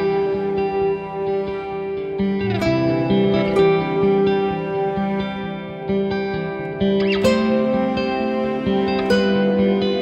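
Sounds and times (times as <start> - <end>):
plucked guitar-like melody: 0.0 - 10.0.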